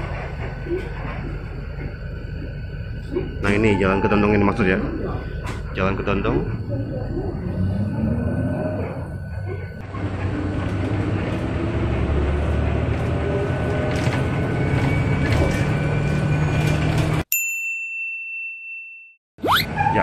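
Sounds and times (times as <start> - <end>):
bus engine and road rumble: 0.0 - 17.2.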